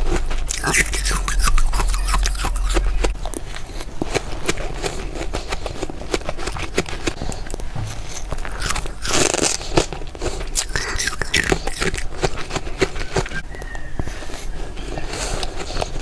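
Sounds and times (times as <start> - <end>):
frost being chewed crunching: 0.0 - 16.0.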